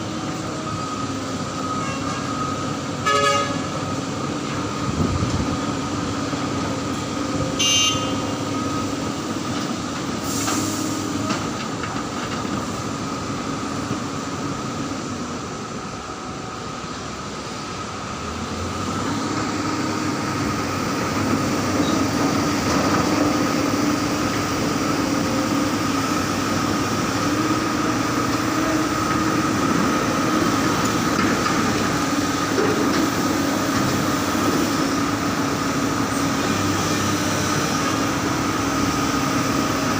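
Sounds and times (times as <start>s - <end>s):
dump truck engine drone: 0.0s - 39.9s.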